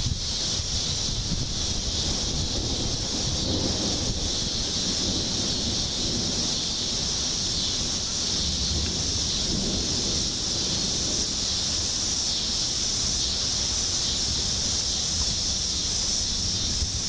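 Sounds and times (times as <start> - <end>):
high hiss: 0.0 - 17.0
strong wind rumbling on microphone: 0.0 - 17.0.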